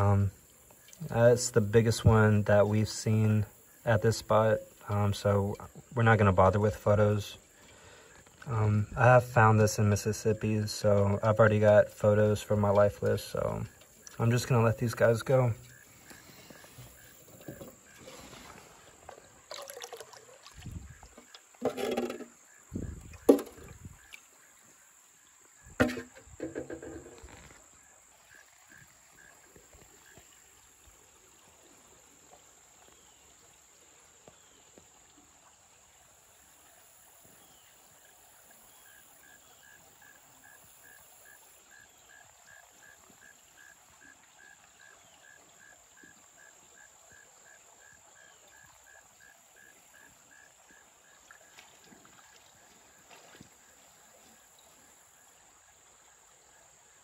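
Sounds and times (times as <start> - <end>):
water splashing: 0.0 - 33.1, 40.0 - 55.6.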